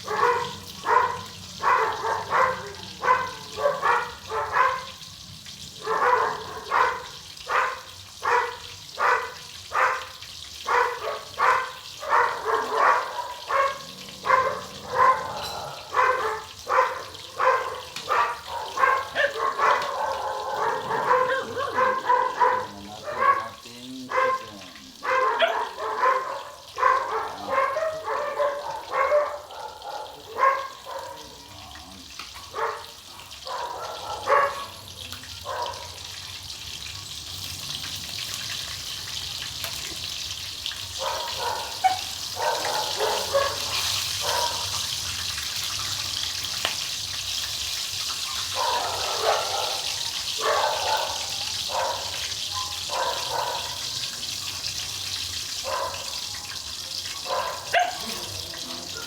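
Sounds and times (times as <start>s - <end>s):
dog barking: 0.0s - 36.4s, 40.7s - 45.1s, 47.4s - 59.0s.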